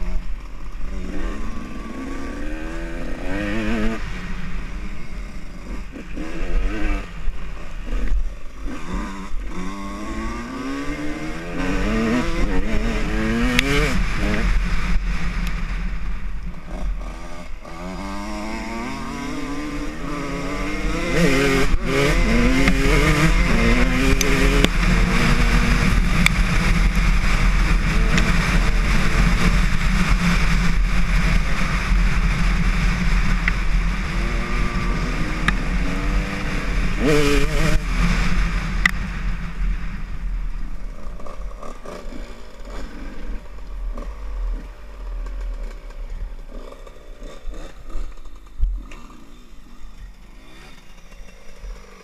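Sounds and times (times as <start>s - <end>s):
dirt bike engine accelerating: 0.0s - 52.0s.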